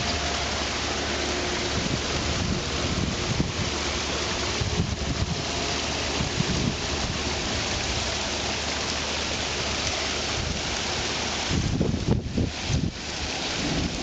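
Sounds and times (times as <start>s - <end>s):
water falling into a pond: 0.0s - 14.0s.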